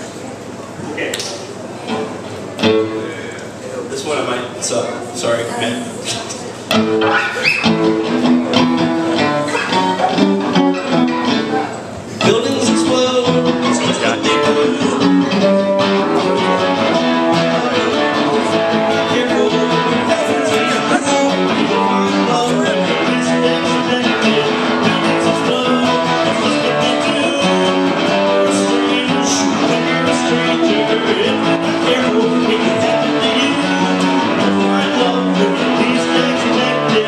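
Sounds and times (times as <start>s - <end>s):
acoustic guitar strumming: 1.9s - 3.3s, 6.7s - 37.0s.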